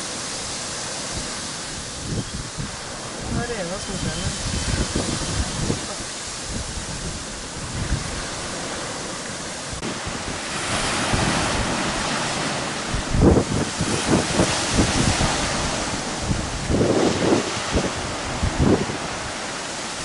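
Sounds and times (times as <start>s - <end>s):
waves washing: 0.0s - 20.0s
wind buffeting microphone: 0.0s - 20.0s.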